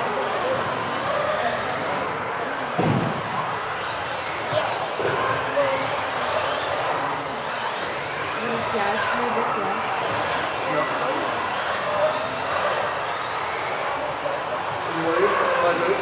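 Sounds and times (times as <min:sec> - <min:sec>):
rc car motors whining: 0:00.0 - 0:16.0.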